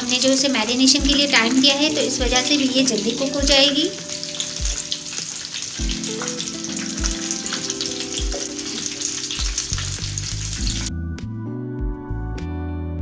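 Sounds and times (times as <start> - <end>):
oil sizzling: 0.0 - 10.9
background music with beat: 1.0 - 13.0.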